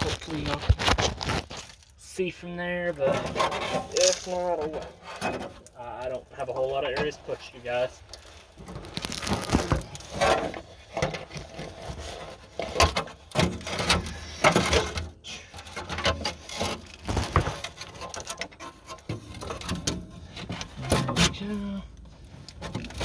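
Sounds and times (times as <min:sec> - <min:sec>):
parts scraping: 0:00.0 - 0:02.0, 0:02.8 - 0:23.0.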